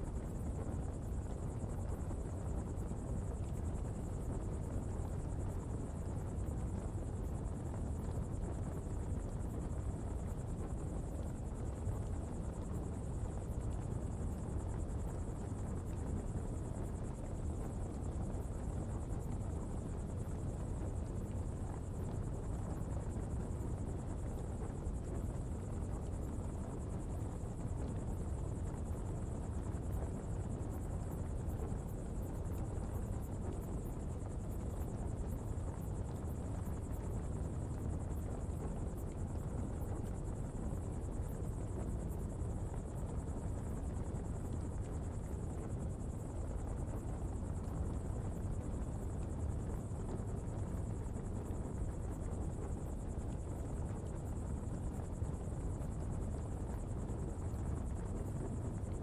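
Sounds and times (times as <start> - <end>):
fire burning with low rush: 0.1 - 59.0.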